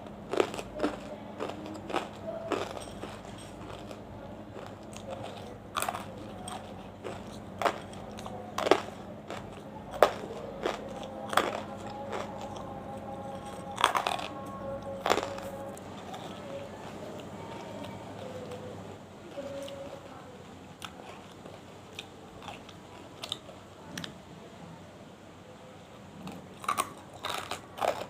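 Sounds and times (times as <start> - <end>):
quiet chewing: 0.0 - 24.3, 26.2 - 28.0.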